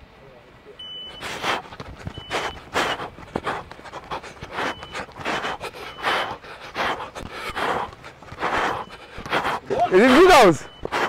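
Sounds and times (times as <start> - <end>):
heavy rhythmic breathing: 0.9 - 11.0.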